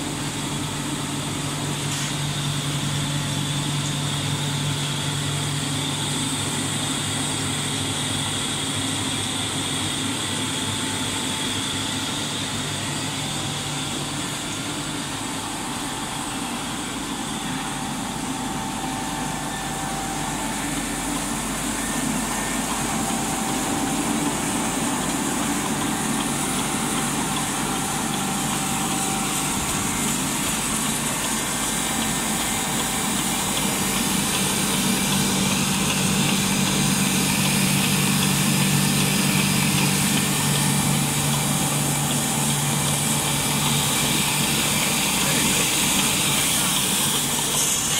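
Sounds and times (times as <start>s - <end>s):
machine hum tones: 0.0s - 47.9s
printing machine running: 0.0s - 47.9s.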